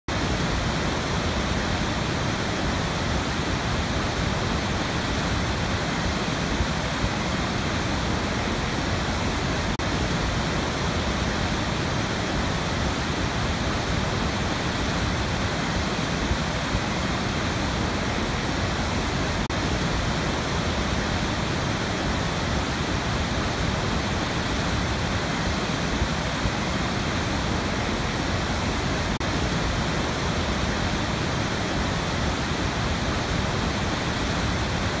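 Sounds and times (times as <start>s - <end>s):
waterfall rushing: 0.1s - 35.0s.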